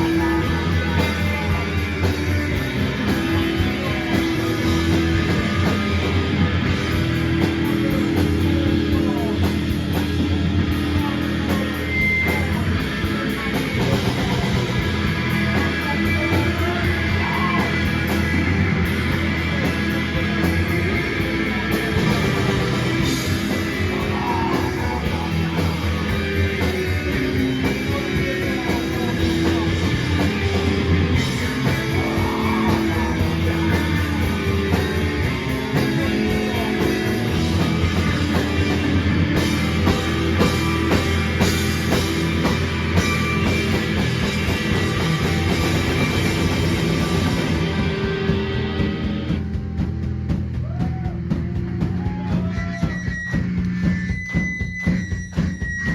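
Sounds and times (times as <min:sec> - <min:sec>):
rock band playing live: 0:00.0 - 0:55.9.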